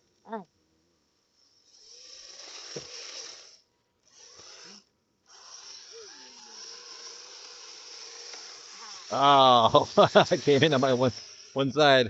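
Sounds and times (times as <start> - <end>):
toy snow vehicles whirring: 1.2 - 12.0.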